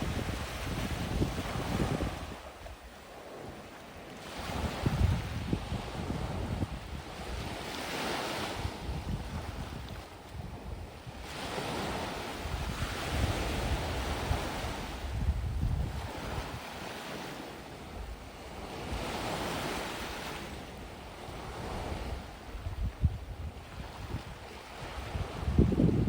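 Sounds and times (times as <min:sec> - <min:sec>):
gentle waves on sandy beach: 0:00.0 - 0:26.0
wind rumble on microphone: 0:00.0 - 0:26.0.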